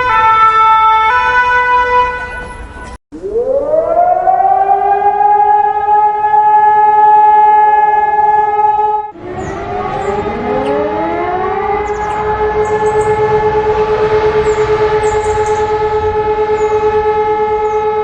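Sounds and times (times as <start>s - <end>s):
overlapping rising siren tones: 3.2s - 18.0s
siren winding up: 3.2s - 18.0s.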